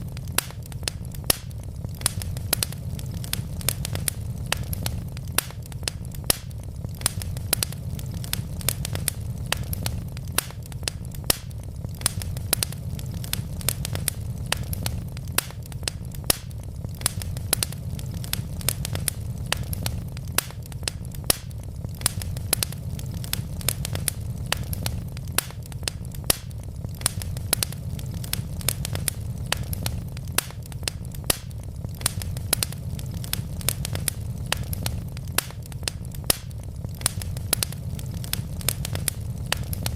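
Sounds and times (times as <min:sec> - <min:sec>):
burning logs crackling: 0:00.0 - 0:39.9
flames rumbling: 0:00.0 - 0:39.9.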